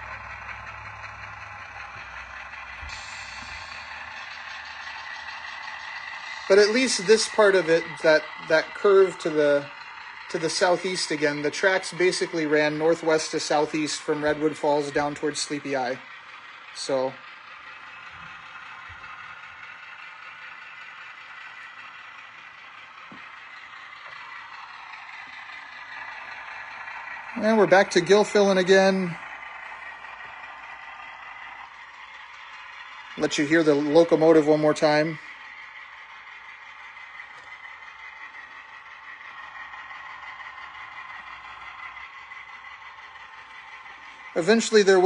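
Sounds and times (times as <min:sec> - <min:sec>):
model train running on track: 0:00.0 - 0:45.0.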